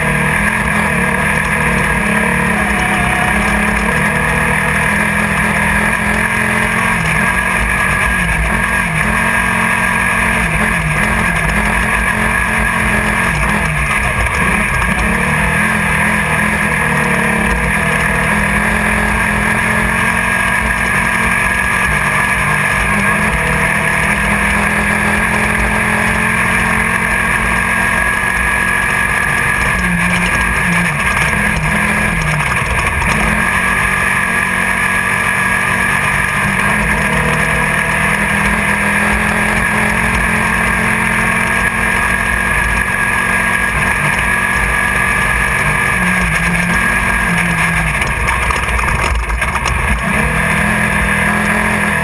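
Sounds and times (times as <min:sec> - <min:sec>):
buggy engine at high revs: 0:00.0 - 0:52.0
road and wind noise: 0:00.0 - 0:52.0.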